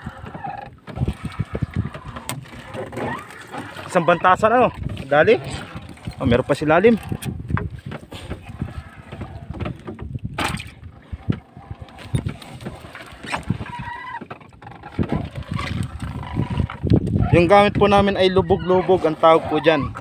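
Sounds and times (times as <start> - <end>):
water splashing: 0.0 - 16.9
knocks and clatters in boat hull: 0.0 - 17.9.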